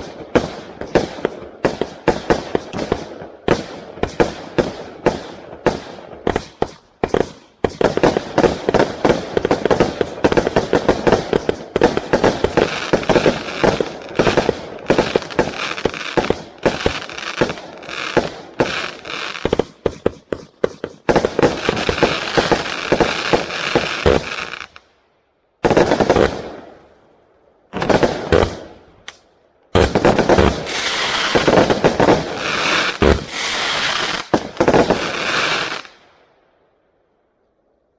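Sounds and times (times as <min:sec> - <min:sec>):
fireworks shots and crackling bursts: 0:00.0 - 0:25.0, 0:25.6 - 0:27.0, 0:27.7 - 0:36.3.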